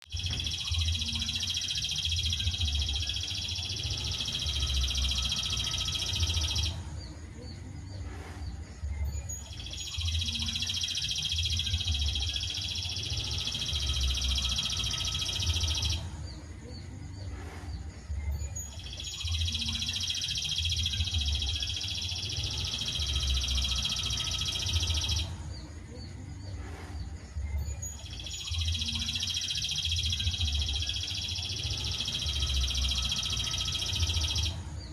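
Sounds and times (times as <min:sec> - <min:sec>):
high bird trill: 0:00.0 - 0:08.0, 0:08.8 - 0:17.4, 0:18.1 - 0:26.6, 0:27.4 - 0:34.9.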